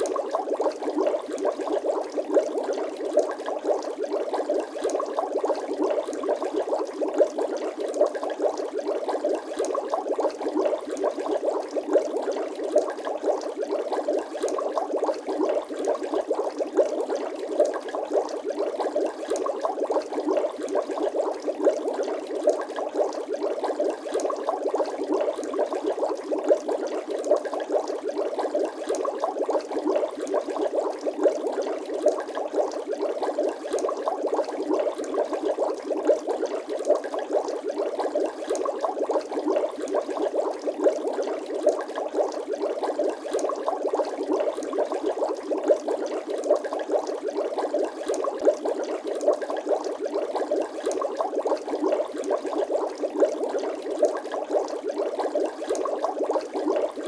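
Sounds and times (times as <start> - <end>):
water bubbling and gurgling: 0.0 - 57.0.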